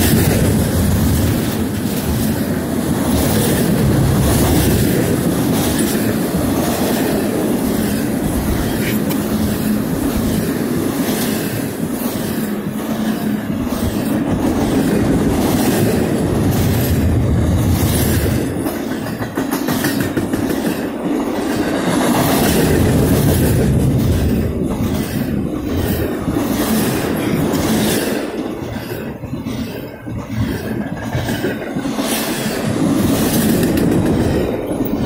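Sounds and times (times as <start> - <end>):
steel wheels rumbling on rail: 0.0 - 35.0.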